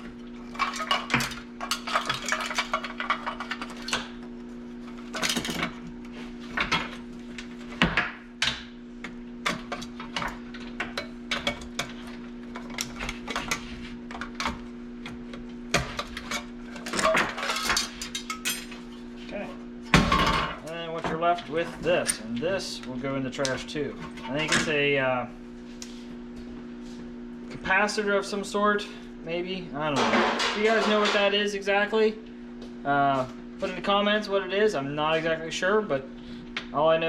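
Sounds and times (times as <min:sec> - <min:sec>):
steady background hum: 0:00.0 - 0:37.0.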